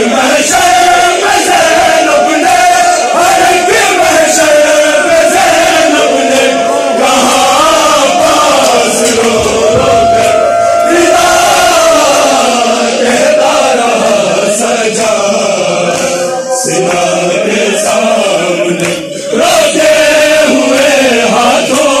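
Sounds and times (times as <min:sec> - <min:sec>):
men chanting a lament in unison: 0:00.0 - 0:22.0.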